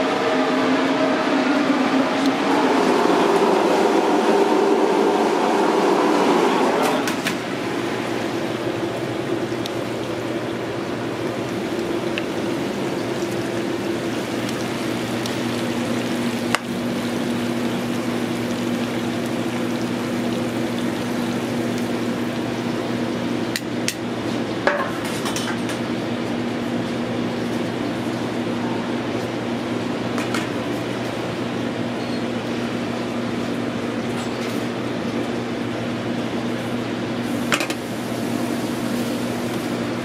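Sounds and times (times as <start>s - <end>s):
kitchen ventilation fan hum: 0.0s - 40.0s.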